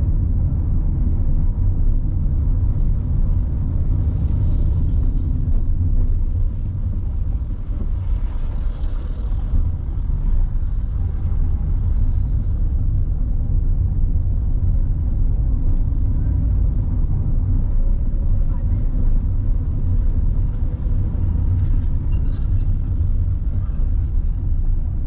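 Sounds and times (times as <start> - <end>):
car driving rumble inside cabin: 0.0 - 25.0.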